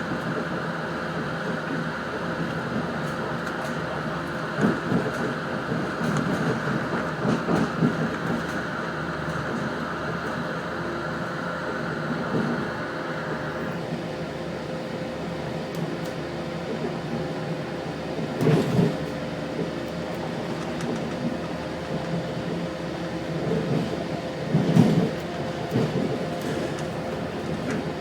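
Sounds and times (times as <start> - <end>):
railcar running rumble: 0.0 - 28.0.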